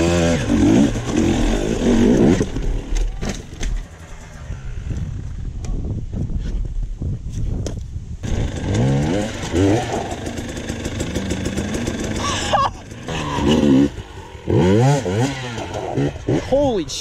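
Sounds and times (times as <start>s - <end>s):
dirt bike engines revving: 0.0s - 5.4s, 8.2s - 17.0s.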